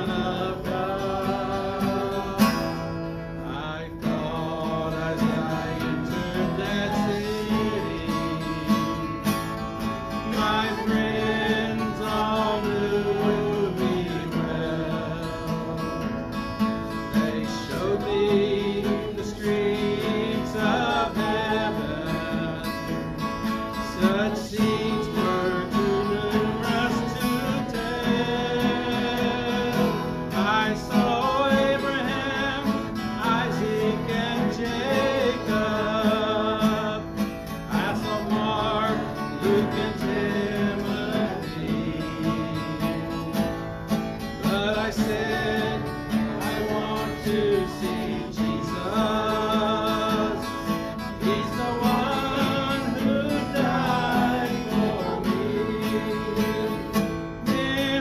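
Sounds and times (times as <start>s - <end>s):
acoustic guitar strumming: 0.0s - 58.0s
man singing a hymn: 0.0s - 58.0s.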